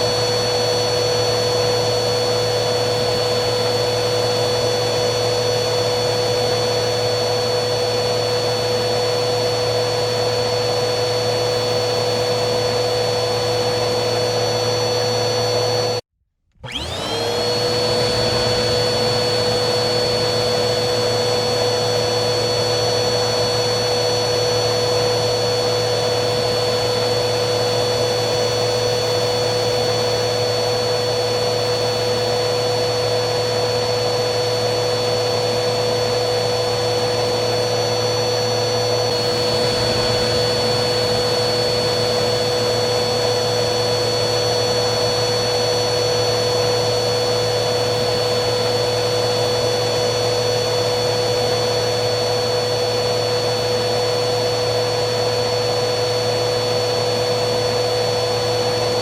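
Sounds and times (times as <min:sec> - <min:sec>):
vacuum cleaner motor humming: 0:00.0 - 0:59.0.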